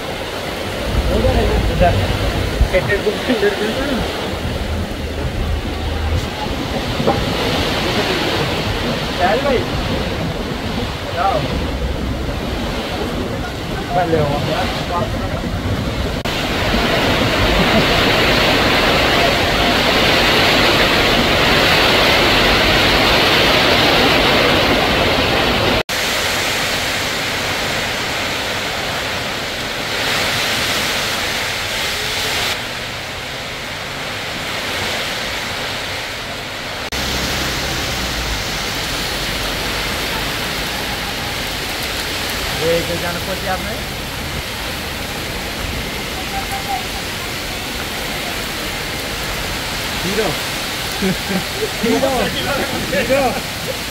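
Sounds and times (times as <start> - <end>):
heavy rain pouring: 0.0 - 53.9
rain on a metal roof: 0.0 - 53.9
rain on a wet street: 0.0 - 53.9.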